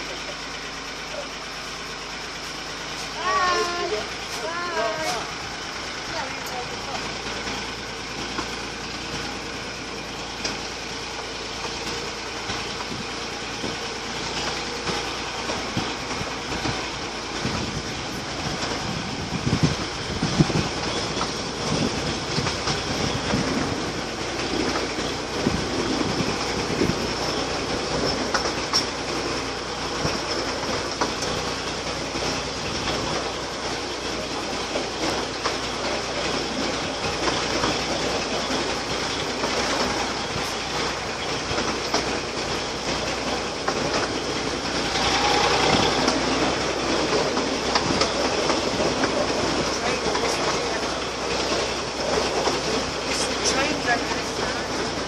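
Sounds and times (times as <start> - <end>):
wheels rattling on rail: 0.0 - 55.0.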